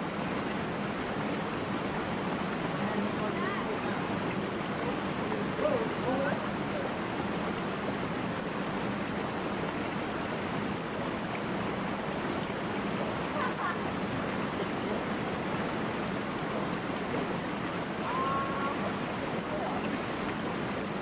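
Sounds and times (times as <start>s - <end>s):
river rushing over boulders: 0.7s - 21.0s.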